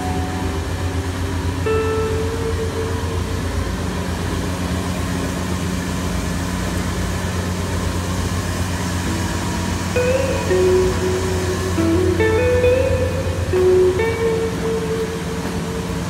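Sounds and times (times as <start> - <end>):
fryer mechanical drone: 0.0 - 16.0
higher hum: 0.0 - 16.0.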